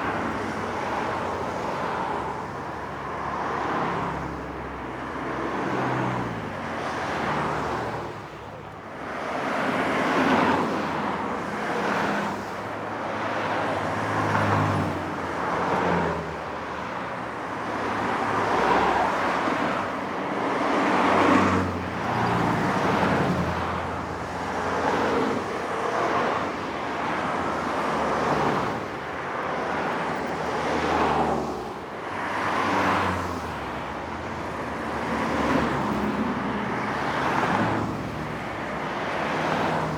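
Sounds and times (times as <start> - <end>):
cars passing on highway: 0.0 - 39.9.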